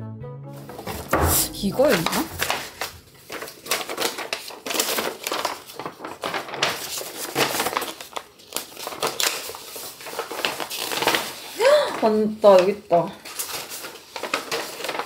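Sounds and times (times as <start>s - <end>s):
paper rustling and crinkling: 0.6s - 15.0s.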